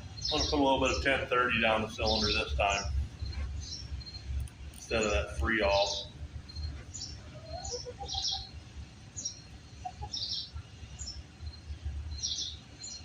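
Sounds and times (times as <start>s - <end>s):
faint low rumble: 0.0s - 13.0s
small birds chirping: 0.0s - 13.0s.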